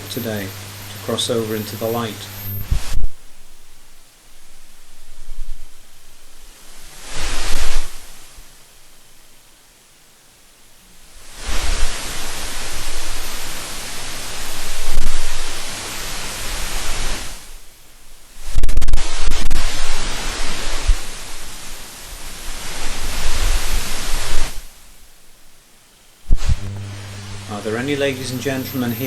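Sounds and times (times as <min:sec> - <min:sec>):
low uneven flutter: 0:00.0 - 0:09.4, 0:10.9 - 0:25.3, 0:26.2 - 0:29.0
loud rushing hiss: 0:00.0 - 0:09.5, 0:10.8 - 0:29.0.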